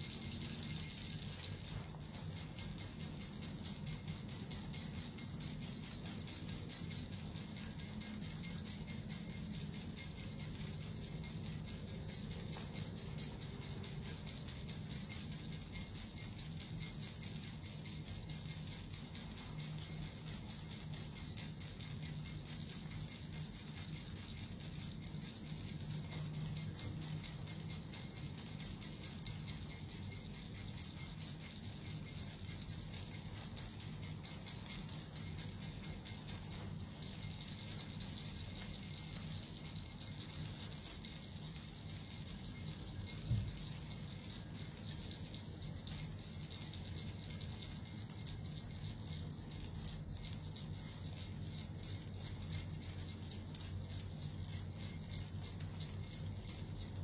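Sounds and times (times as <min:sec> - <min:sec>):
jingle bells shaken: 0:00.0 - 0:57.0.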